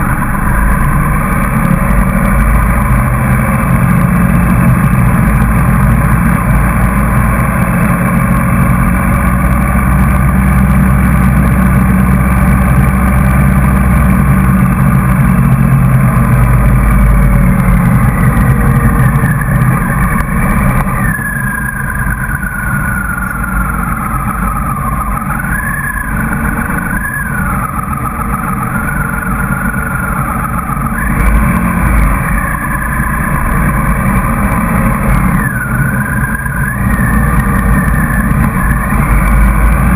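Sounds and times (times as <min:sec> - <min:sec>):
motorcycle engine running: 0:00.0 - 0:39.9
other motorcycle engines: 0:00.0 - 0:39.9.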